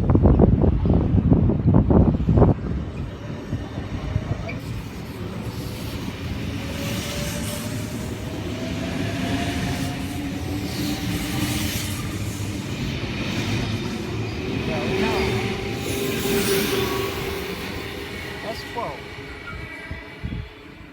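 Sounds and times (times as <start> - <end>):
wheels rumbling on rail: 0.0 - 20.9
train traction motors whining: 2.6 - 20.9.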